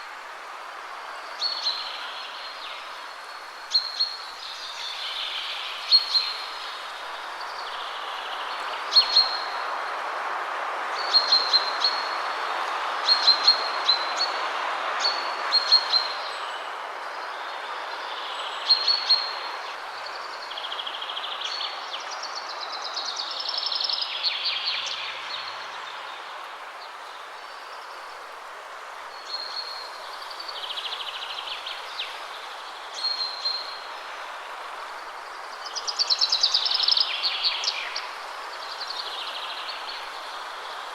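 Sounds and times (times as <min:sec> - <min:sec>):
wind rushing through trees: 0:00.0 - 0:40.9.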